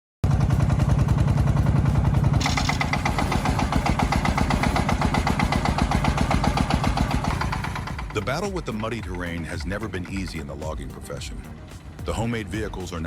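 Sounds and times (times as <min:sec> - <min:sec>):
rhythmic clatter: 0:00.2 - 0:13.0
vehicle engine chugging: 0:00.2 - 0:13.0.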